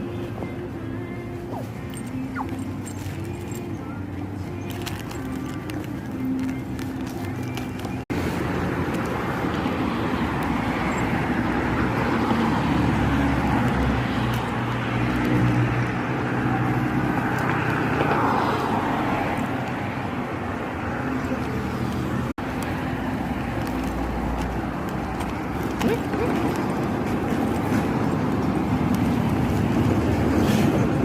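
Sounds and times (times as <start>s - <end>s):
road traffic noise: 0.0s - 31.0s
vehicle passing: 4.6s - 31.0s.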